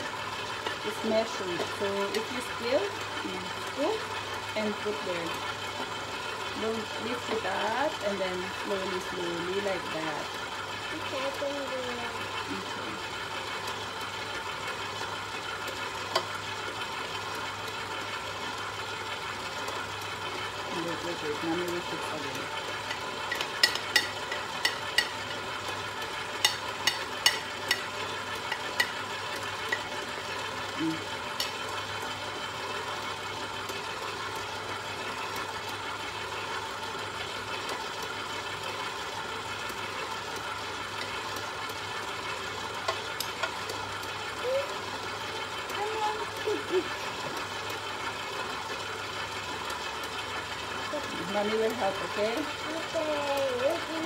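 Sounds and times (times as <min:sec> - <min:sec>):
stand mixer motor running: 0:00.0 - 0:54.0.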